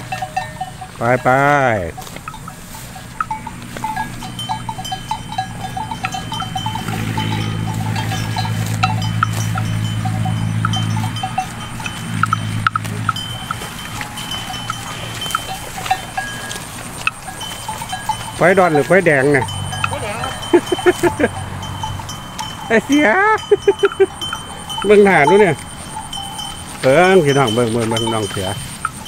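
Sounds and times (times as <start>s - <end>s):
animal bells clanking: 0.0s - 29.0s.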